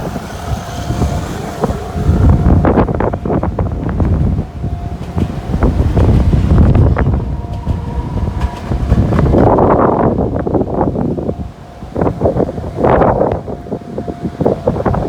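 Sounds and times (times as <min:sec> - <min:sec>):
electric train running: 0:00.0 - 0:15.0
hissing swell: 0:00.0 - 0:15.0
wind buffeting microphone: 0:00.0 - 0:15.0.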